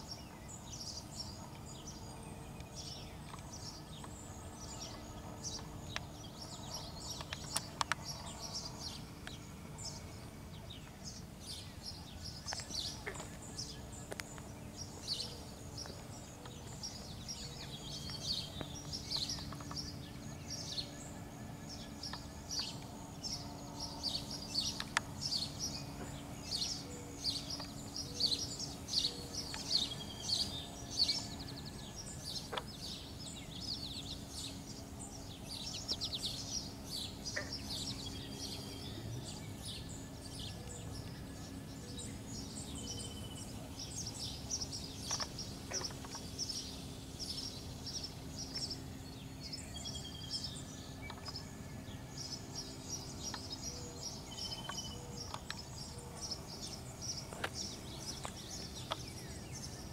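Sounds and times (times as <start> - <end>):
faint steady low hum: 0.0 - 59.9
small birds chirping: 0.0 - 59.9.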